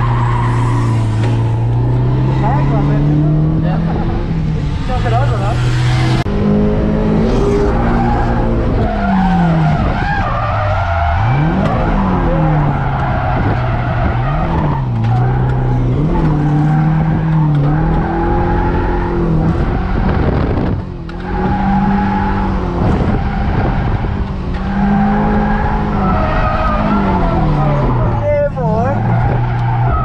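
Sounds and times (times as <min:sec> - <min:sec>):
car engine revving hard: 0:00.0 - 0:10.0, 0:10.9 - 0:28.2.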